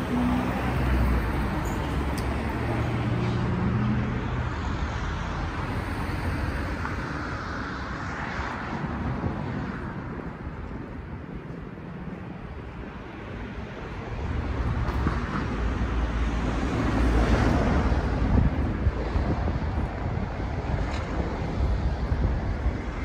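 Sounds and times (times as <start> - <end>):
traffic hum: 0.0 - 23.0.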